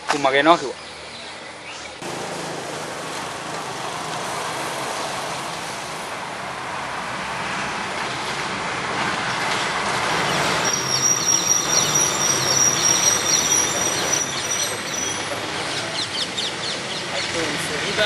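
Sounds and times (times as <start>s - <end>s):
passing road vehicle rushing: 2.0s - 18.0s.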